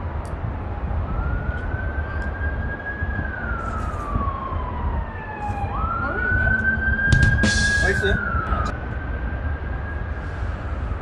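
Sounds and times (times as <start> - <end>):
siren wailing: 0.4 - 11.0.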